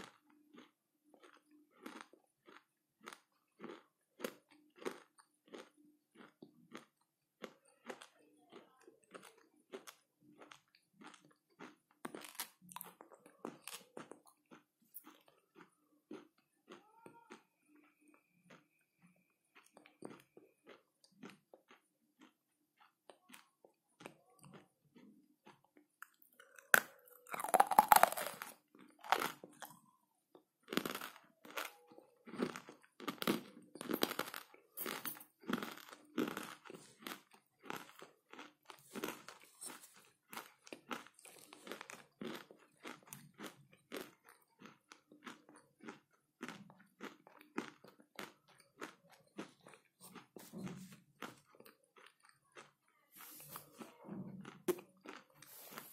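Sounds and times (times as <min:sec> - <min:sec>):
crunching and chewing clay: 0:00.0 - 0:55.9.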